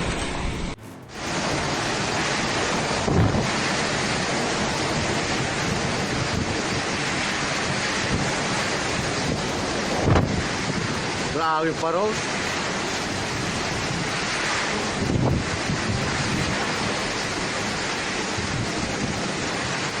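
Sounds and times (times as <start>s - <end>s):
strong wind buffeting microphone: 0.0s - 20.0s
rushing water: 1.0s - 20.0s.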